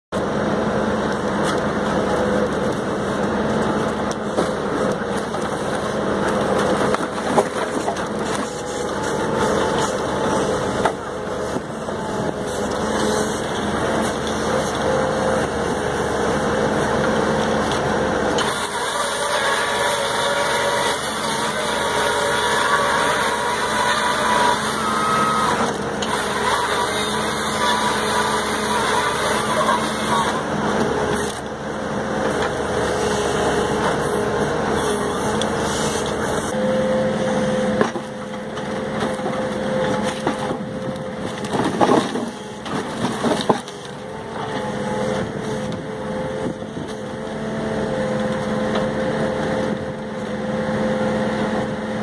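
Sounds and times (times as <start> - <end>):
diesel engine running: 0.1 - 52.0.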